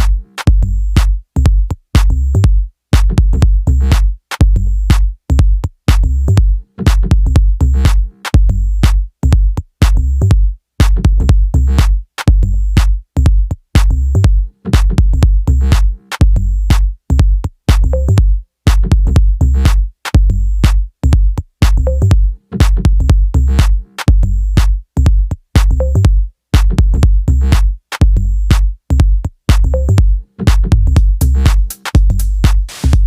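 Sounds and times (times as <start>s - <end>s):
electronic music with drum-machine beat: 0.0s - 33.0s.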